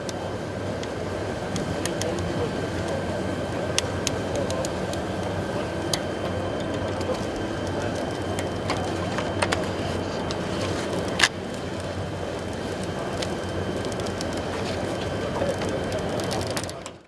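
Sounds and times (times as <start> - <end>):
thin steady whine: 0.0 - 17.0
veneer splicing machine humming: 0.0 - 17.0.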